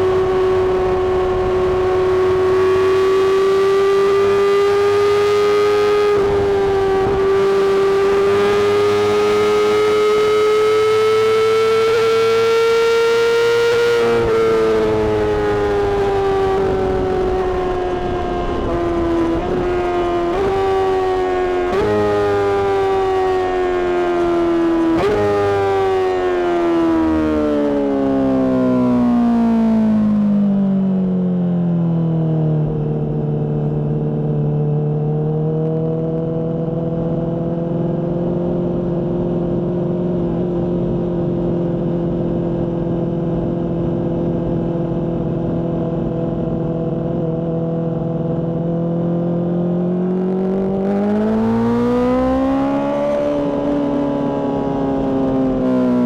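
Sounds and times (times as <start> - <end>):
motorcycle engine revving: 0.0 - 31.0, 32.6 - 56.0.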